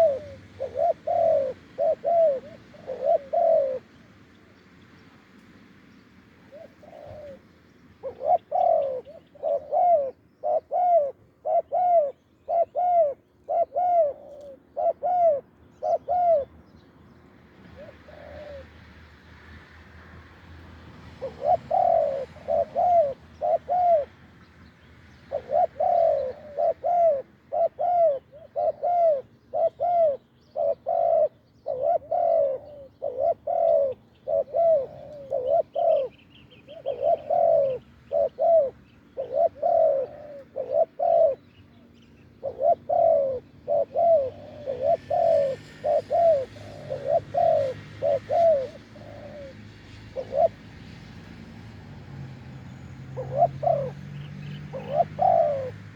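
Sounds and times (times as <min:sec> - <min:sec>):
doves cooing: 0:00.0 - 0:04.1, 0:06.4 - 0:16.5, 0:17.7 - 0:18.8, 0:21.0 - 0:24.2, 0:25.2 - 0:55.9.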